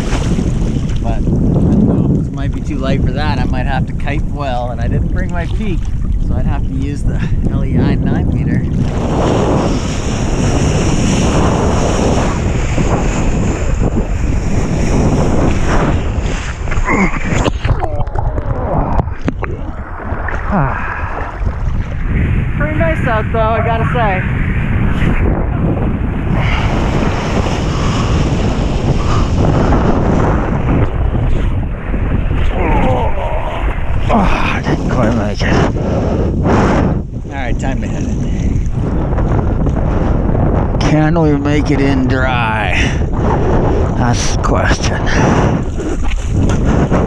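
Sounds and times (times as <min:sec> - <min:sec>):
water splashing and rushing: 0:00.0 - 0:47.0
wind buffeting microphone: 0:00.0 - 0:47.0.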